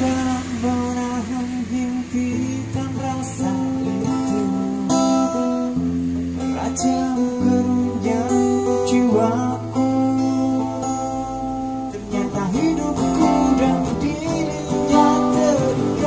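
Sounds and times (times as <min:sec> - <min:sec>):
man singing: 0:00.0 - 0:05.8, 0:06.4 - 0:16.0
strummed acoustic guitar: 0:00.0 - 0:16.0.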